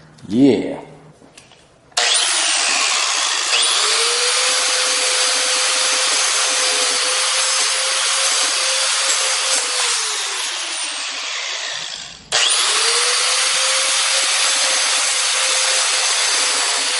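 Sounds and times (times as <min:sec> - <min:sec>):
angle grinder grinding whine: 0:02.0 - 0:16.9.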